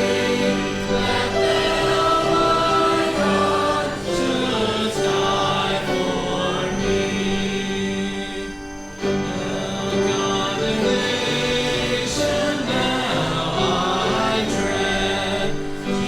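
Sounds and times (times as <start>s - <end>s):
choir singing a hymn: 0.0s - 16.0s
instrumental accompaniment: 0.0s - 16.0s.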